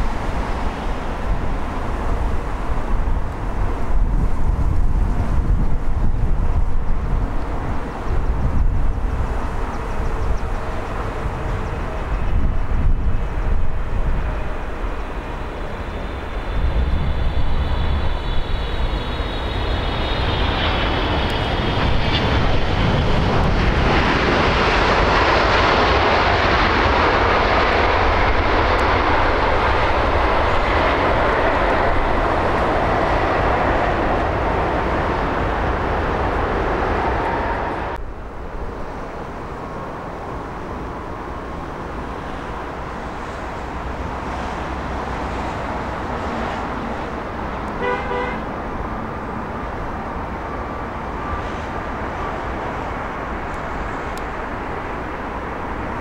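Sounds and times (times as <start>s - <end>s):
distant airliner jet noise: 0.0s - 56.0s
heavy jet engine roar: 0.0s - 56.0s
jet engine whine: 0.0s - 56.0s.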